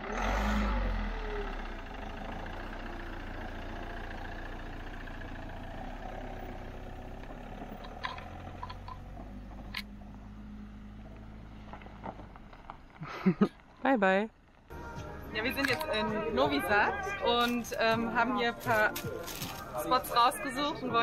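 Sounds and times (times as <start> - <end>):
camper van engine starting and idling: 0.0 - 13.4, 14.7 - 21.0.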